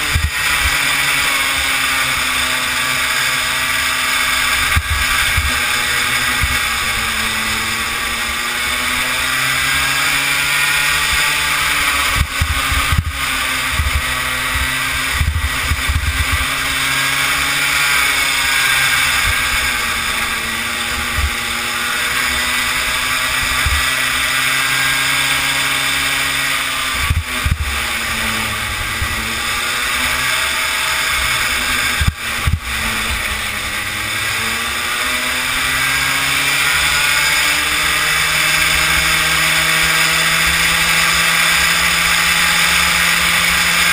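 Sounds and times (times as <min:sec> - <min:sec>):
kart engine running: 0:00.0 - 0:43.9
wind and tyre noise: 0:00.0 - 0:43.9.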